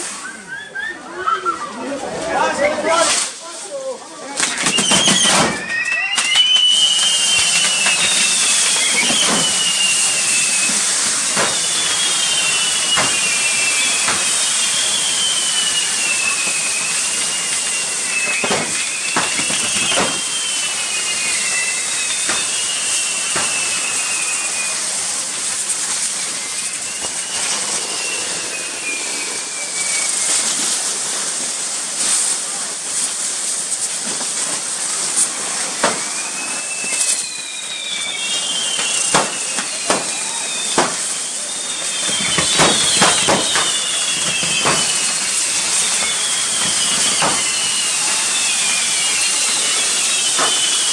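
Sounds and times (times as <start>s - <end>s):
firework fountains hissing: 0.0s - 50.9s
whistling fireworks: 0.0s - 50.9s
sharp firework cracks: 2.9s - 50.9s.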